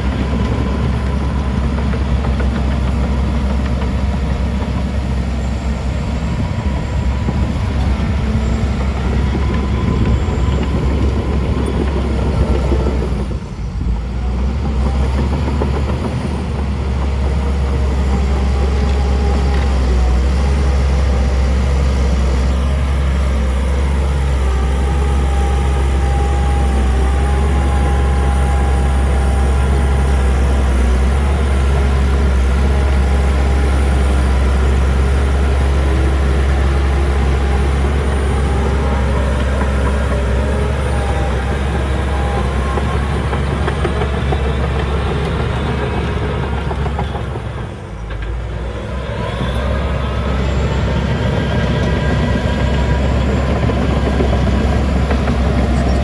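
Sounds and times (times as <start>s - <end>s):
diesel machinery rumbling: 0.0s - 56.0s.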